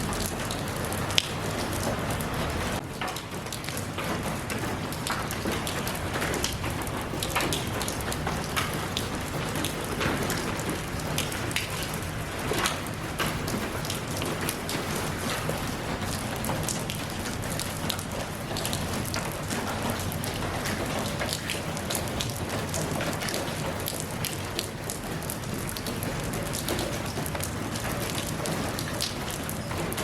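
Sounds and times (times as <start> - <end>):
raindrops clicking on a surface: 0.0 - 30.0
steady rain falling: 0.0 - 30.0.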